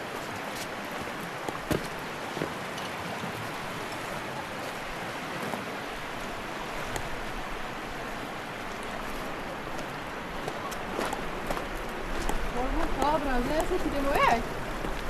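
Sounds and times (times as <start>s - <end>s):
fast river rushing: 0.0s - 15.0s.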